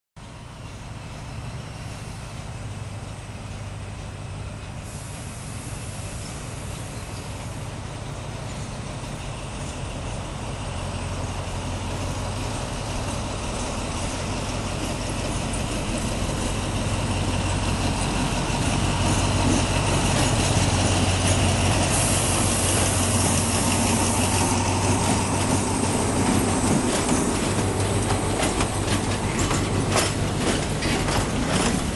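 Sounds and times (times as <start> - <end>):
diesel locomotive engine drone: 0.2 - 31.9
train wheels rolling: 0.4 - 31.9.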